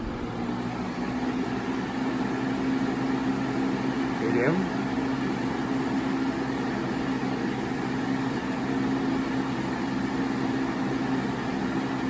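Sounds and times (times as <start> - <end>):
box fan running: 0.0 - 12.0.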